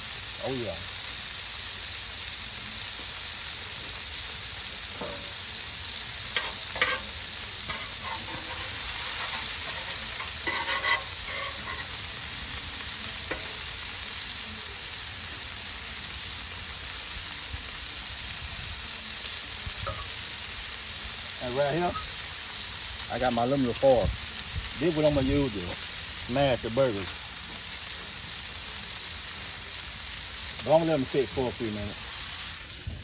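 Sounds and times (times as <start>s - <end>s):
meat sizzling on a griddle: 0.0s - 33.0s.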